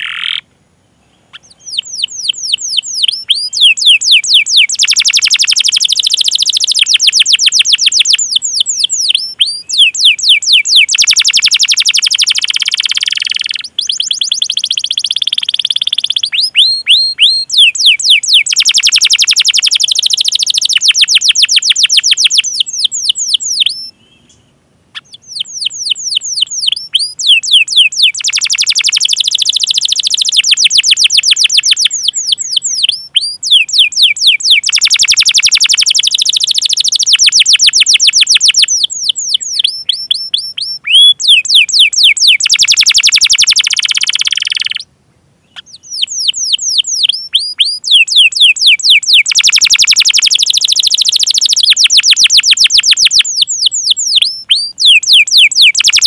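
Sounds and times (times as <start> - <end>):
canary singing chirps and trills: 0.0 - 0.5, 1.3 - 56.0.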